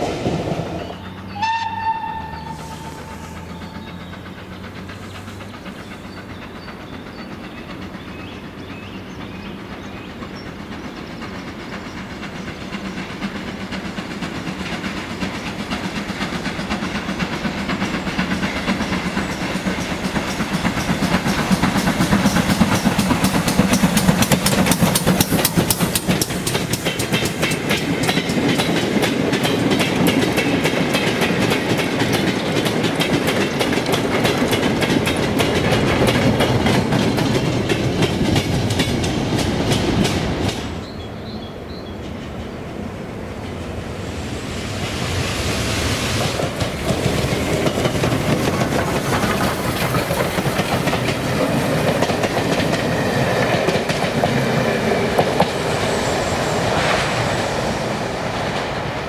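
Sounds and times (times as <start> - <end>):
wheels clicking over rail joints: 0.0 - 44.1, 46.2 - 56.0
steam train passing: 0.0 - 59.0.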